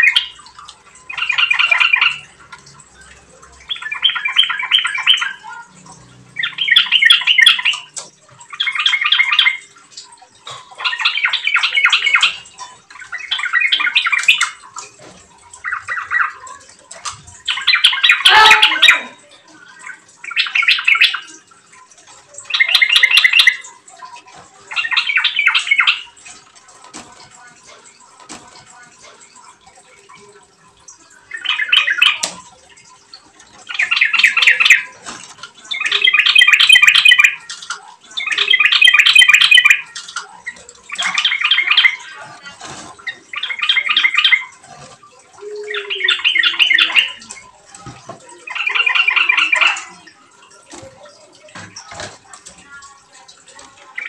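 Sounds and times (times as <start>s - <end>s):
bird singing jumbled notes: 0.0s - 54.0s.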